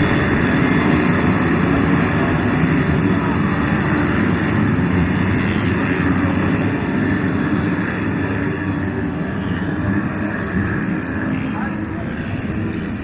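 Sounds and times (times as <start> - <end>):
motocross bike engines: 0.0 - 13.0.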